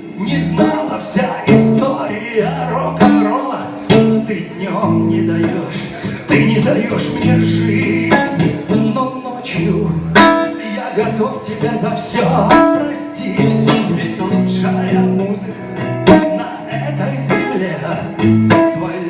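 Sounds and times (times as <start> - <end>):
acoustic guitar strumming blues: 0.0 - 19.0.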